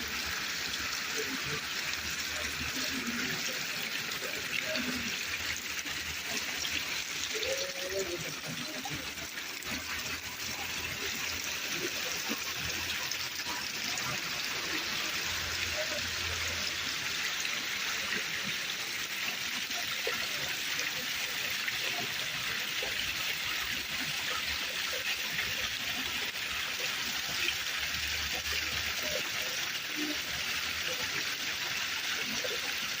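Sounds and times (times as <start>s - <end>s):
waterfall splashing into pool: 0.0s - 33.0s.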